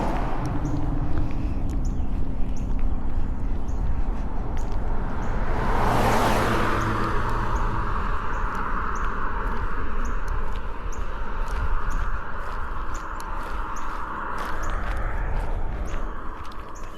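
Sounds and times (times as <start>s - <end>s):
birds chirping: 0.0s - 16.9s
car passing on paved road: 0.0s - 16.9s.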